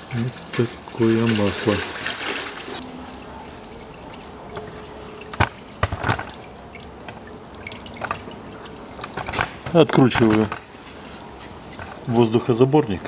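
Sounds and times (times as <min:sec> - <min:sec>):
fluid trickling and dripping: 0:00.0 - 0:13.0.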